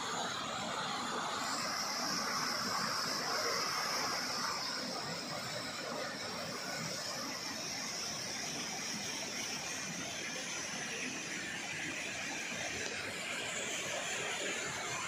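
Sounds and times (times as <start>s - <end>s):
stream rushing over boulders: 0.4s - 15.0s.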